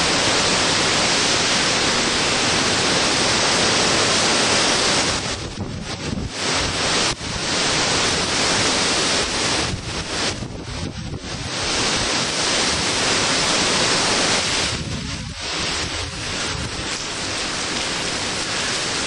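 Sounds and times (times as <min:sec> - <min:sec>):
wind blowing through trees: 0:00.0 - 0:19.0
wind buffeting microphone: 0:00.0 - 0:19.0
wind-driven rain: 0:00.0 - 0:19.0.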